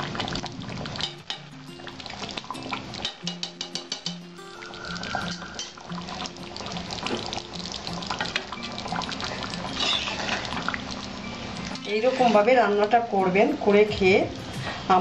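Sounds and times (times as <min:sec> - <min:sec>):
curry bubbling and popping: 0:00.0 - 0:13.1
soft background music: 0:00.0 - 0:15.0.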